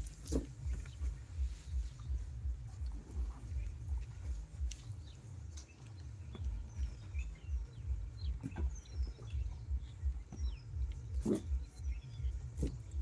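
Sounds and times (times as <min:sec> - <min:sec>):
low rumbling pulse: 0:00.0 - 0:13.0
small birds chirping: 0:00.0 - 0:13.0.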